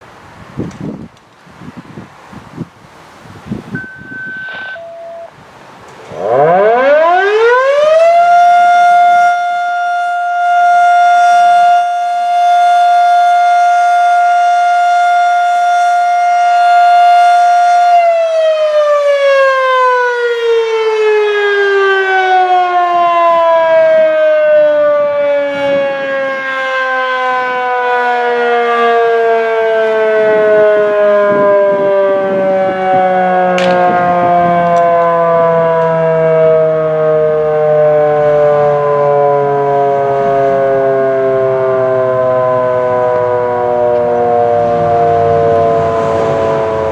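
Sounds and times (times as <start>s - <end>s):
civil defense siren wailing: 0.8s - 46.9s.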